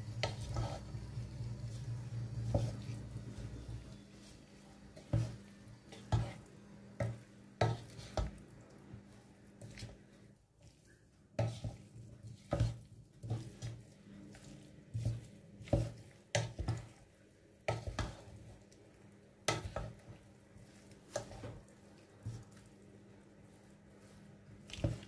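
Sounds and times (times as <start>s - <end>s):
wooden spoon scraping a pot: 0.0s - 18.6s, 19.4s - 22.8s, 23.4s - 25.0s.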